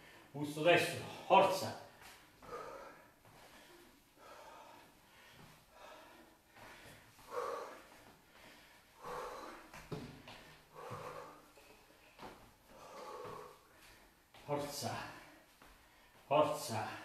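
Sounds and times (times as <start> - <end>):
man breathing hard: 0.0 - 17.0.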